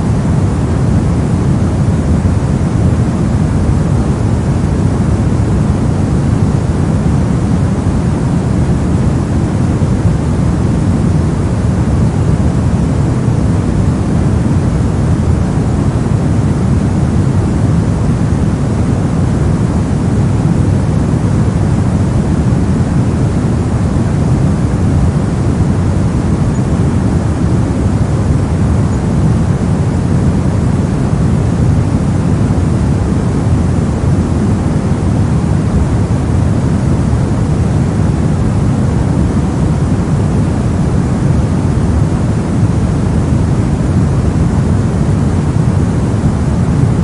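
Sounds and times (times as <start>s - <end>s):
brown noise hiss: 0.0s - 47.0s.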